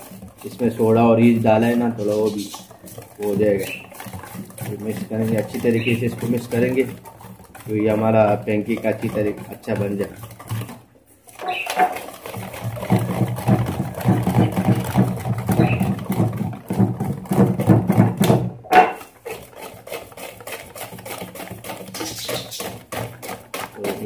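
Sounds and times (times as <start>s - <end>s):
whisk clattering against bowl: 0.0s - 24.0s.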